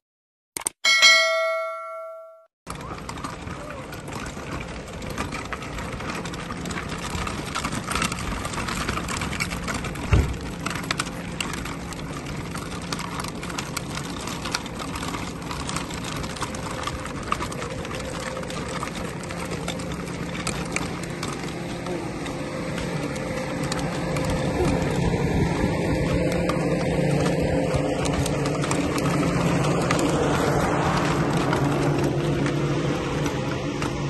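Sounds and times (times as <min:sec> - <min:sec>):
wagon wheels rattling on pavement: 0:02.7 - 0:34.0.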